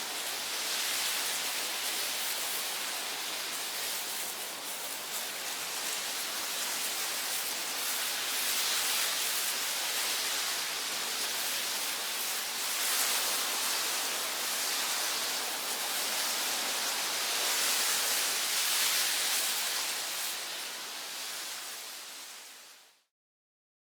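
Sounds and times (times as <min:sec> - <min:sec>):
rushing hissing water: 0:00.0 - 0:23.0.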